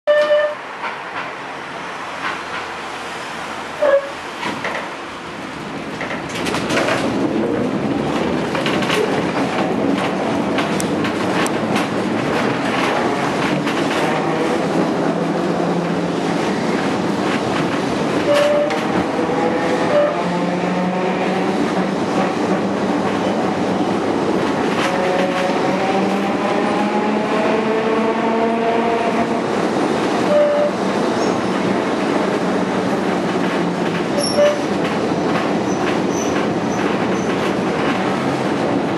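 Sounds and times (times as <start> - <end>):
tram rattling on rails: 0.1 - 38.9.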